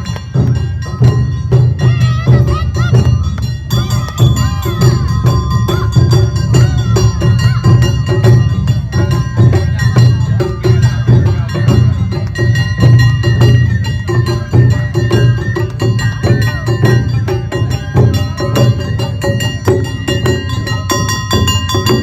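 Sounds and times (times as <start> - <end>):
bamboo flute melody: 0.0 - 22.0
clacking and clanging percussion: 0.0 - 22.0
heavy drums: 0.0 - 22.0.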